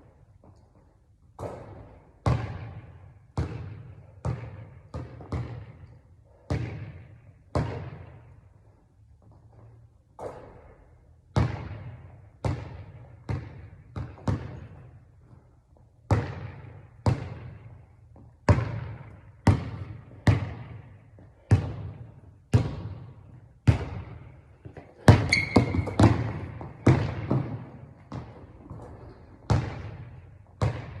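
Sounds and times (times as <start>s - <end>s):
basketball bouncing on hard court: 1.4s - 8.4s, 11.3s - 31.0s.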